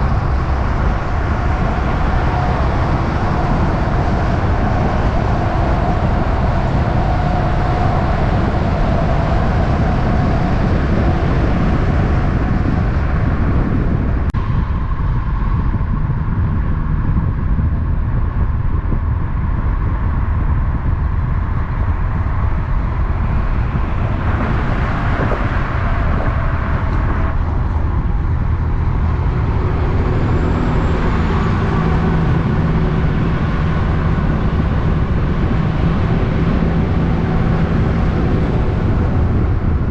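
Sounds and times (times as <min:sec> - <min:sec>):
heavy road traffic rumble: 0:00.0 - 0:39.9.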